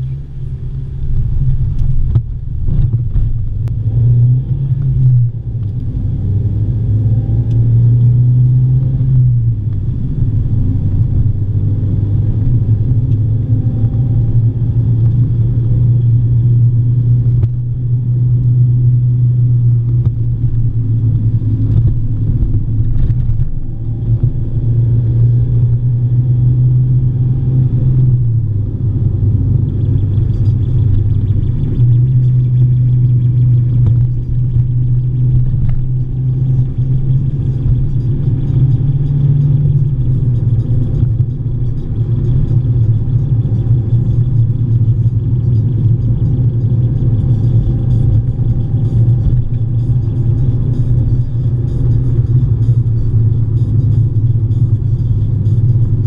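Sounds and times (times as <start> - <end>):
car engine droning: 0.0 - 56.0
tyre road rumble: 0.0 - 56.0.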